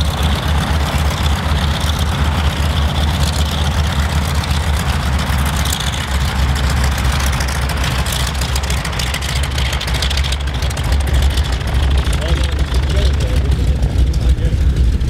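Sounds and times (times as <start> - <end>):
plane engines droning: 0.0 - 15.0.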